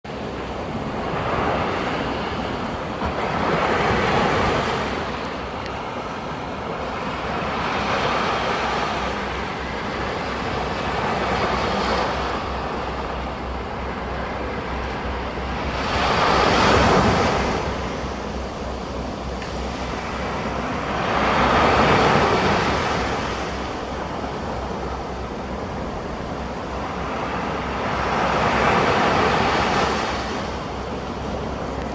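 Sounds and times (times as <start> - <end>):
ocean waves breaking on beach: 0.1 - 31.9.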